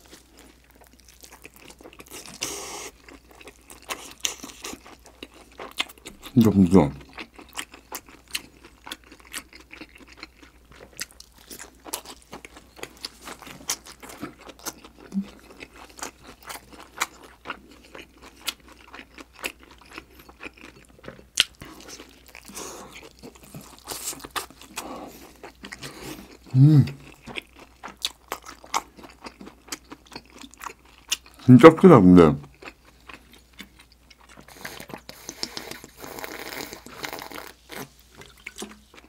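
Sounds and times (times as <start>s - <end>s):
person chewing: 0.0s - 31.5s, 32.4s - 39.0s.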